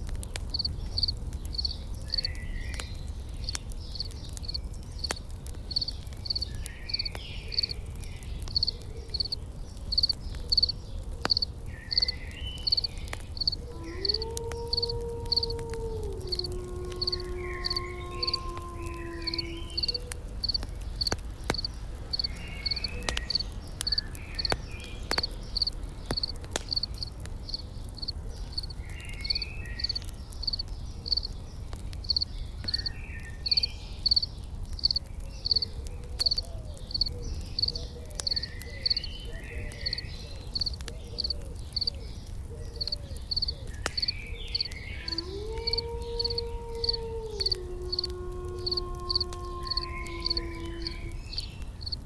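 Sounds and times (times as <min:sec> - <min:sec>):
campfire crackling and popping: 0:00.0 - 0:52.0
insect chirping: 0:00.5 - 0:02.4, 0:04.0 - 0:07.8, 0:08.6 - 0:10.7, 0:11.3 - 0:15.6, 0:16.3 - 0:31.3, 0:32.0 - 0:35.6, 0:36.3 - 0:39.1, 0:39.8 - 0:41.9, 0:43.3 - 0:52.0
small bird chirps: 0:00.5 - 0:14.2, 0:17.0 - 0:45.0, 0:48.7 - 0:52.0.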